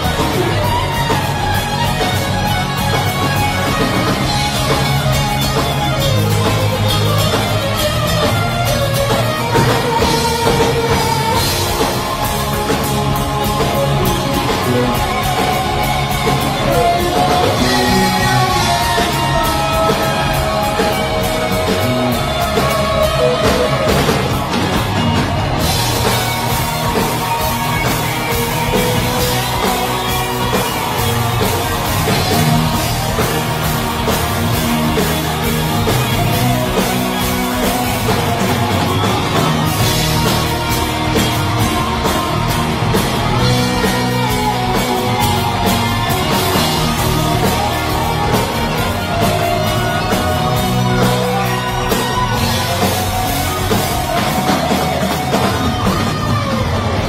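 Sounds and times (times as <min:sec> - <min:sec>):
bass guitar: 0:00.0 - 0:57.0
distorted electric guitars: 0:00.0 - 0:57.0
drum kit: 0:00.0 - 0:57.0
keyboards: 0:00.0 - 0:57.0.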